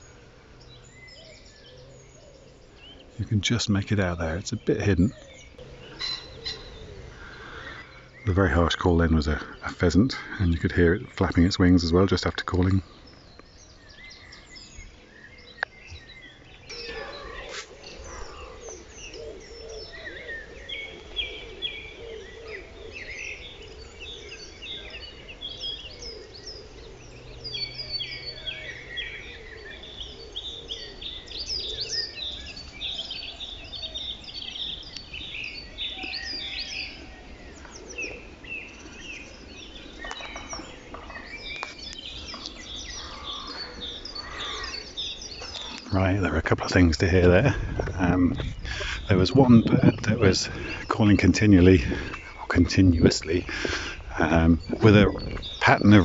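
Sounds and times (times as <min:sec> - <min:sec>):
small birds singing: 0:00.0 - 0:56.0
song thrush singing: 0:00.0 - 0:56.0.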